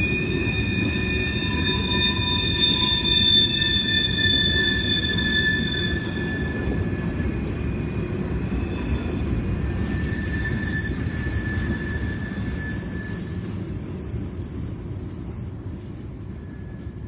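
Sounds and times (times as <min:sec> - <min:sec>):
high wheel squeals: 0:00.0 - 0:17.0
train wheels rumbling on rail: 0:00.0 - 0:17.0.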